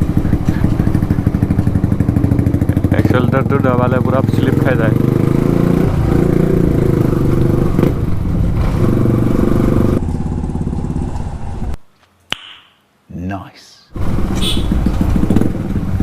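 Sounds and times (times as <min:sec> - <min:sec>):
motorcycle engine loud drone: 0:00.0 - 0:11.8, 0:14.0 - 0:16.0.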